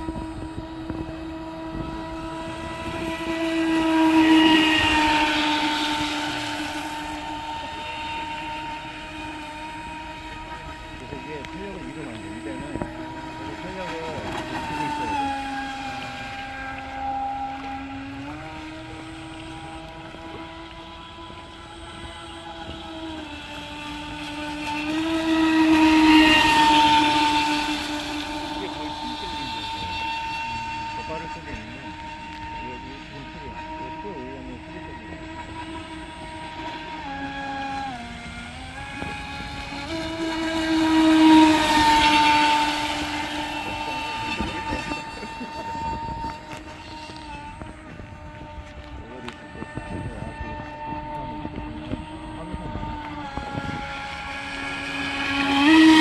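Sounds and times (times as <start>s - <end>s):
model boat motor whine: 0.0s - 56.0s.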